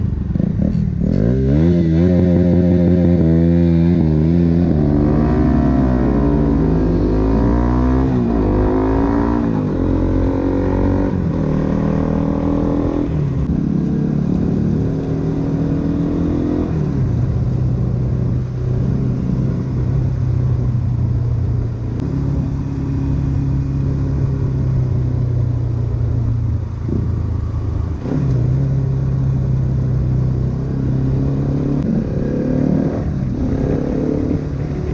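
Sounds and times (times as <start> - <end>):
motorcycle shifting through gears: 0.0 - 34.9.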